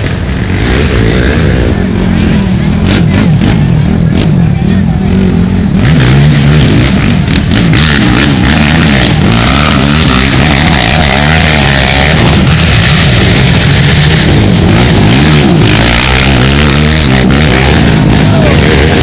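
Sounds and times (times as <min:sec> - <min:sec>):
atv engines revving: 0:00.0 - 0:19.0.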